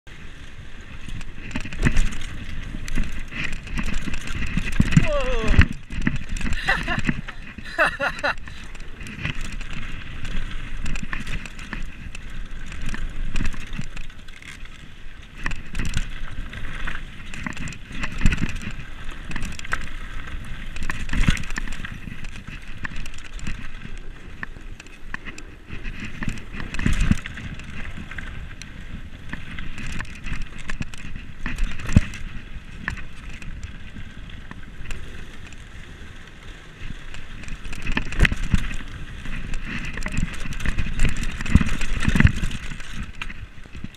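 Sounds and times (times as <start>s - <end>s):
mountain bike rattling over rough ground: 0.1s - 43.9s.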